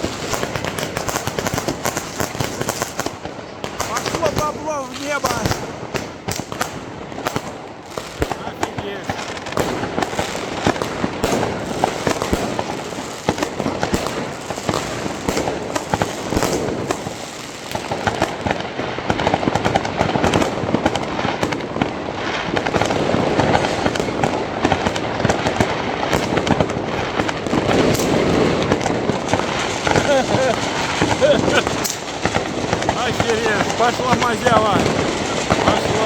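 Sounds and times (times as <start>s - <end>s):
fireworks and firecrackers banging: 0.0s - 36.0s.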